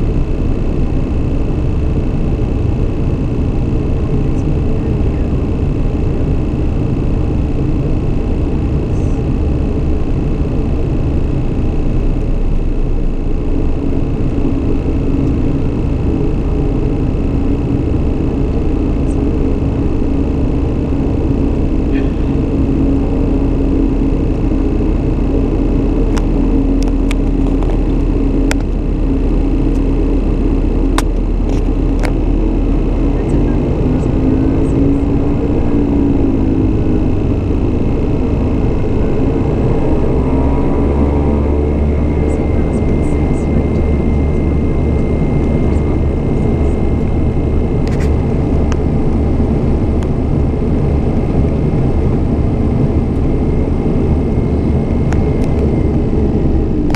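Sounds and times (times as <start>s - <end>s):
high whine: 0.0s - 56.9s
turboprop cockpit drone: 0.0s - 56.9s.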